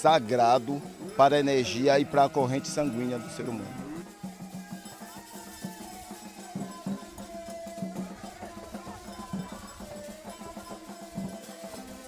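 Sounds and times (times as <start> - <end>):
drums beating quick rhythm: 0.0 - 12.0.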